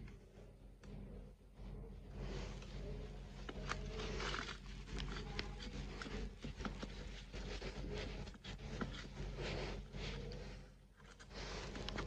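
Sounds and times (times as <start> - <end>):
steady low hum: 0.0 - 12.0
cloth wiping plastic part: 1.0 - 12.0.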